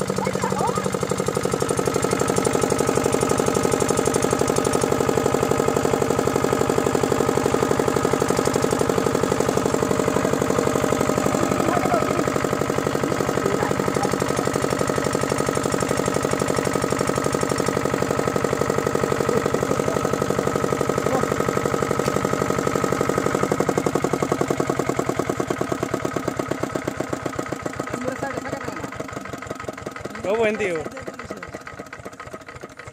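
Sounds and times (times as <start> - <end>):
diesel engine chugging: 0.0 - 32.9.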